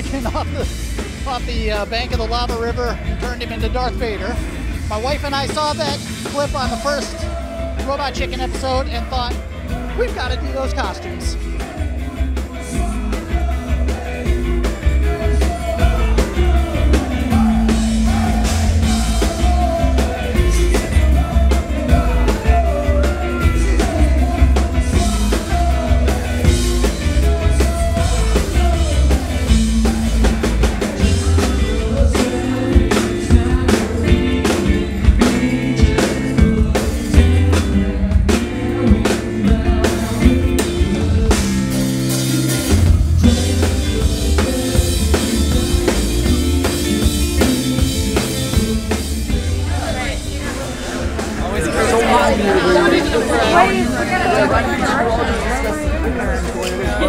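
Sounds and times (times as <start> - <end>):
drum kit: 0.0 - 52.4
guitar: 0.0 - 57.0
person singing: 6.6 - 42.0, 42.7 - 57.0.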